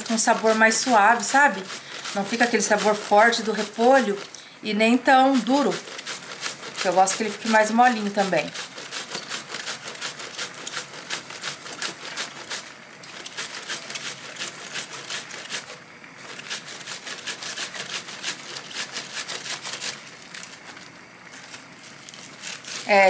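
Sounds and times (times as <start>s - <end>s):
cabbage scraping over slicer blade: 0.0s - 4.3s, 5.1s - 20.7s, 21.4s - 23.0s.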